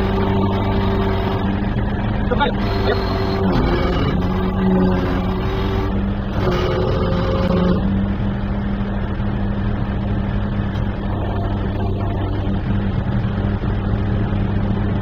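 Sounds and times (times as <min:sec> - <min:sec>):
crane engine and hydraulics: 0:00.0 - 0:15.0
high whine: 0:00.0 - 0:15.0.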